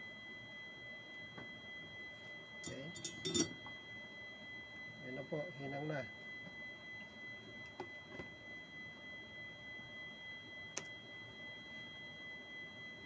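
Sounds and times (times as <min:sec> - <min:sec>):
high-pitched tonal whine: 0:00.0 - 0:13.0.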